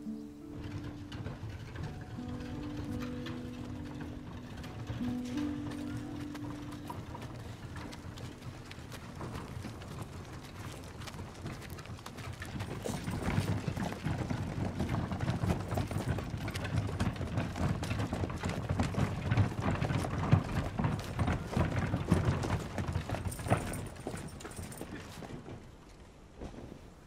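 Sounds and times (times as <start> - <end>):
horse hooves clip-clopping: 0.0 - 27.0.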